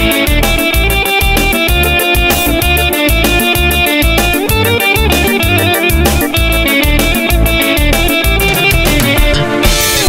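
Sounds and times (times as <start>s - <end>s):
bass and drums: 0.0s - 10.0s
electric guitar: 0.0s - 10.0s.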